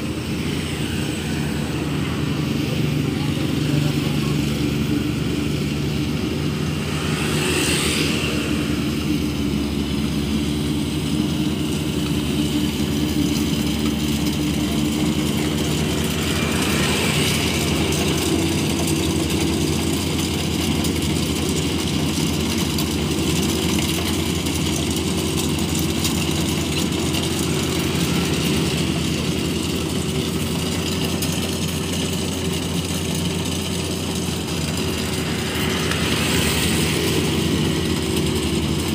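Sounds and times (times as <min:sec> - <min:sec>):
harvester engine running steadily: 0:00.0 - 0:38.9.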